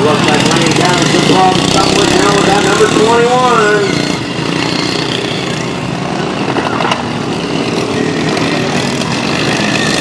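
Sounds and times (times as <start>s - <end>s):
lawn mower engines running: 0.0s - 10.0s.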